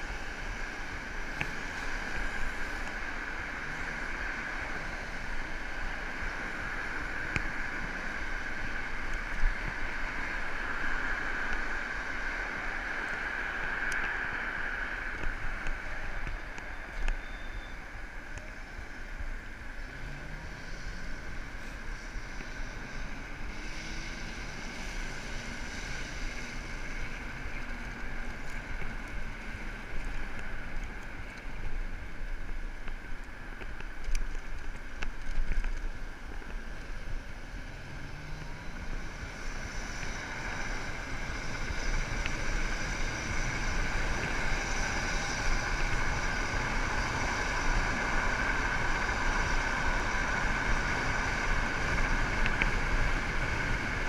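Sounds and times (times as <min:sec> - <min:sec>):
moped engine hum: 0:00.0 - 0:54.0
surrounding traffic: 0:00.0 - 0:54.0
wind rushing over microphone: 0:00.0 - 0:54.0.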